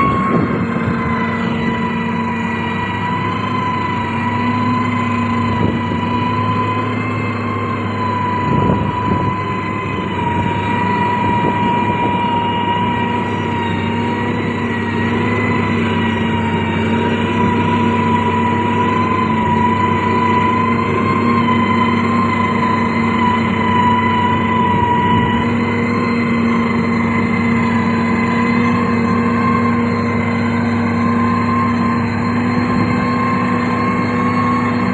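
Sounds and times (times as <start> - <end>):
construction machine engine drone: 0.0 - 34.9
high wavering whine: 0.0 - 34.9.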